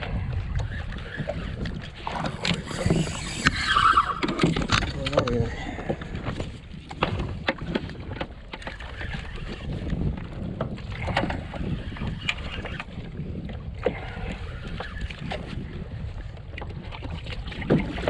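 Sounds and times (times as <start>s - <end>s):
water moving around kayak: 0.0s - 18.0s
wind rumbling on microphone: 0.0s - 18.0s.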